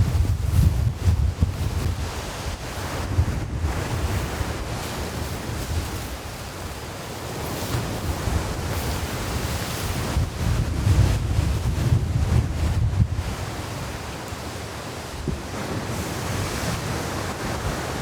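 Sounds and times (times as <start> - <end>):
wind buffeting microphone: 0.0 - 6.5, 7.9 - 14.2, 15.0 - 18.0
sea waves washing on beach: 0.0 - 18.0.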